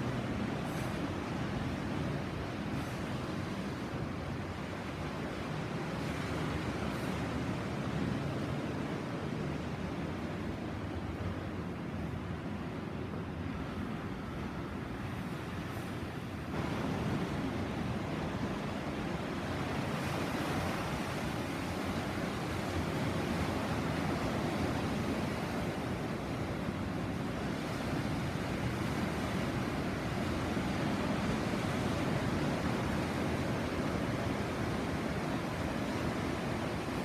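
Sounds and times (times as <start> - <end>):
sea waves washing on shore: 0.0 - 37.0.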